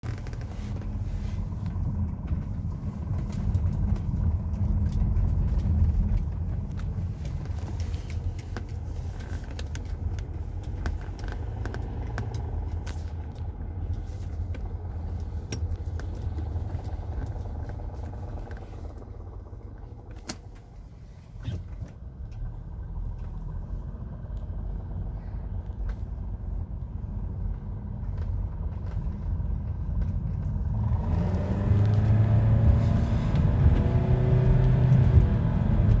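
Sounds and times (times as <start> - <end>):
car engine rumbling: 0.0 - 36.0
engine clicks and knocks: 0.0 - 36.0.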